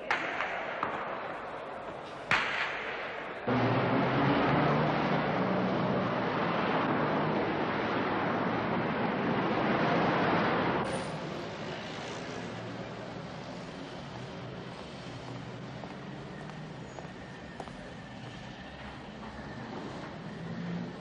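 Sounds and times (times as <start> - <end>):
cars driving past: 3.4 - 21.0.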